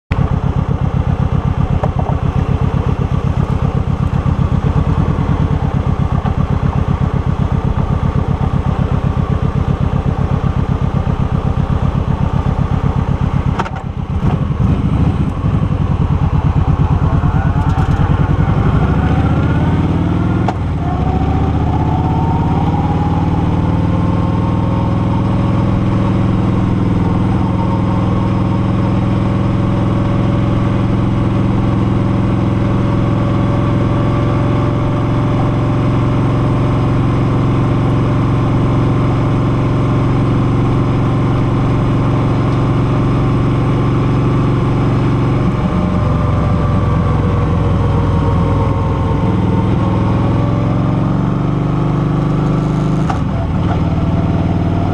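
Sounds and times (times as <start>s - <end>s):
motorcycle engine: 0.1s - 54.9s.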